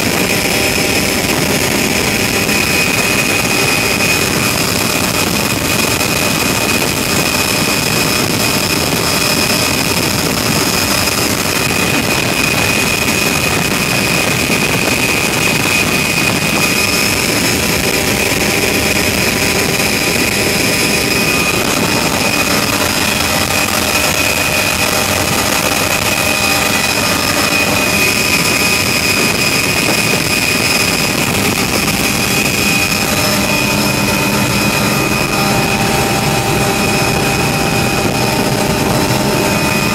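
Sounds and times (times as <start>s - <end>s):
helicopter engine and rotor noise: 0.0s - 39.9s
high steady whine: 0.0s - 39.9s.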